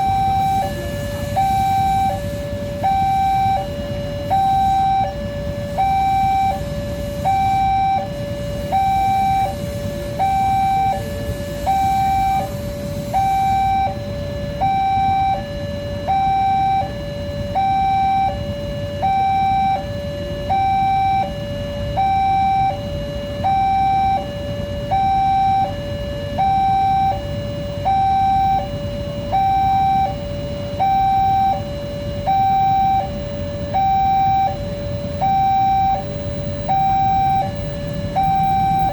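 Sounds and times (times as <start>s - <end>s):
low steady rumbling: 0.0s - 38.9s
two-tone crossing alarm: 0.0s - 38.9s.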